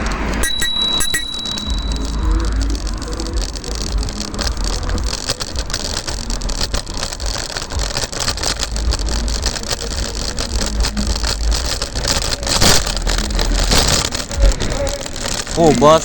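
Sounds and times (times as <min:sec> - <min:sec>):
low rumble: 0:00.0 - 0:15.6
kick scooter rolling over pavement: 0:00.0 - 0:16.0
sharp clicks and knocks: 0:00.0 - 0:16.0.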